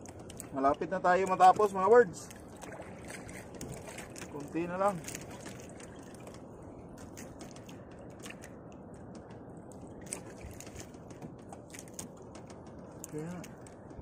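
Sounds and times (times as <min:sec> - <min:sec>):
light clicks and taps: 0:00.0 - 0:02.4, 0:03.4 - 0:14.0
water around boat: 0:00.0 - 0:14.0.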